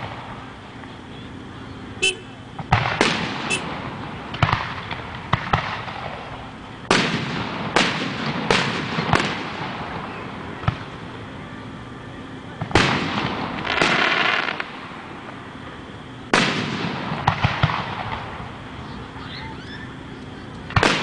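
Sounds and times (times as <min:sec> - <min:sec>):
fireworks booming: 0:00.0 - 0:00.9, 0:02.0 - 0:11.3, 0:12.5 - 0:21.0.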